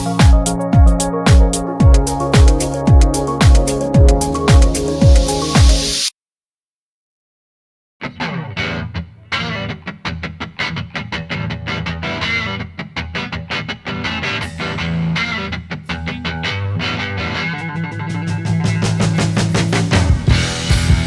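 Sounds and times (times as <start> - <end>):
rock music with electric guitar: 0.0 - 6.0, 8.0 - 21.0.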